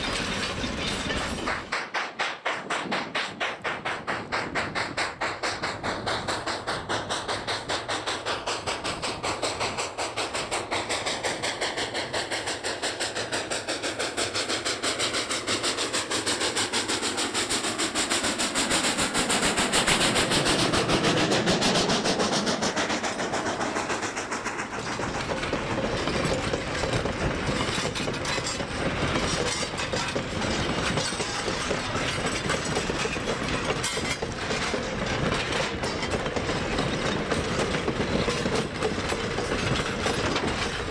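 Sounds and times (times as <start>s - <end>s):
steam locomotive exhaust beat: 0.0s - 40.9s
train wheels clacking over rails: 0.0s - 40.9s.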